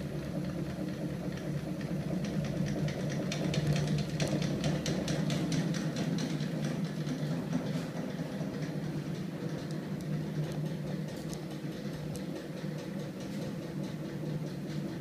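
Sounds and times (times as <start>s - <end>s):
machine motor hum: 0.0s - 15.0s.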